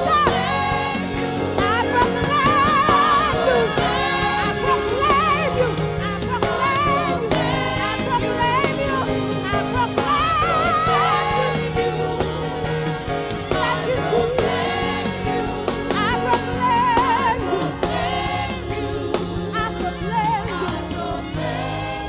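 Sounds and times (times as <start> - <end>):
bass notes: 0.0 - 22.0.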